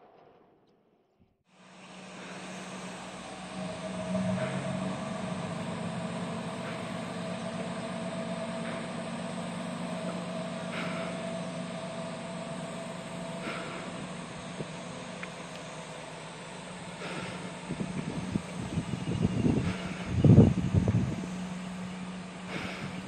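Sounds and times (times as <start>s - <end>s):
diesel railcar engine humming: 1.5s - 23.0s.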